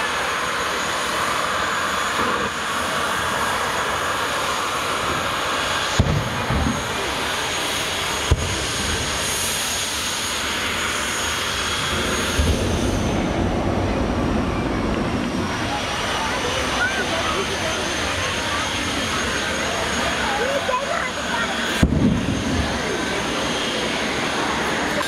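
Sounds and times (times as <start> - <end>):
loud engine roar: 0.0 - 25.0.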